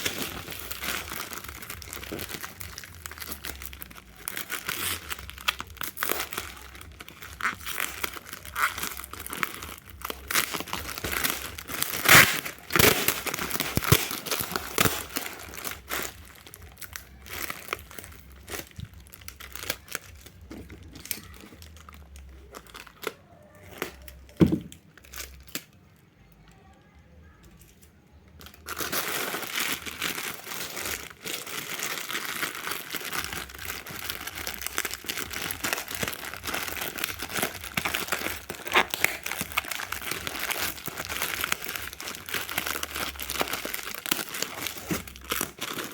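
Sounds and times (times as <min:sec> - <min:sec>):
packaging crinkling and tearing: 0:00.0 - 0:25.8, 0:28.4 - 0:45.9.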